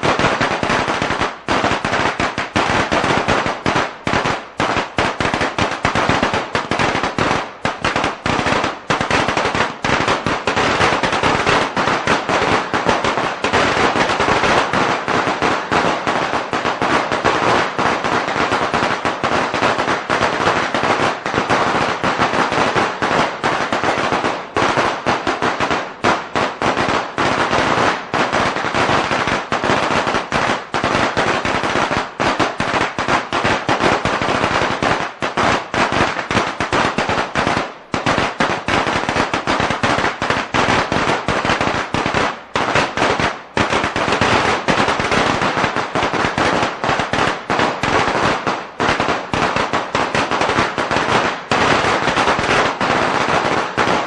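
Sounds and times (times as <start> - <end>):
firecrackers cracking: 0.0 - 54.0.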